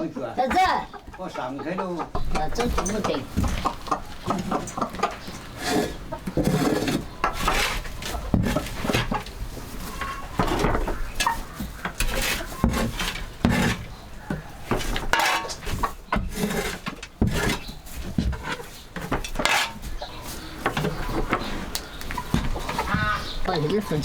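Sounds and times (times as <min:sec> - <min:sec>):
dishes and utensils clattering: 0:00.4 - 0:24.0
crockery knocking and scraping: 0:02.0 - 0:24.0.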